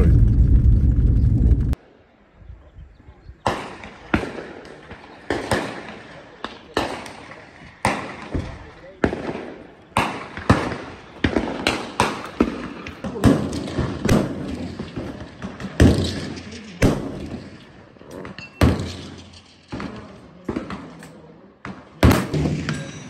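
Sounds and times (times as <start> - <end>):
gunshots with echo: 3.4 - 21.0, 21.6 - 23.0.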